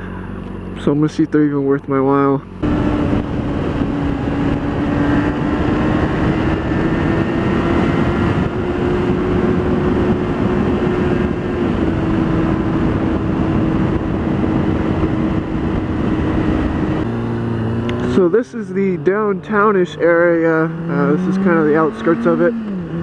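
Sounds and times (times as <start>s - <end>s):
motorcycle engine droning: 0.0s - 23.0s
wind noise: 2.6s - 23.0s.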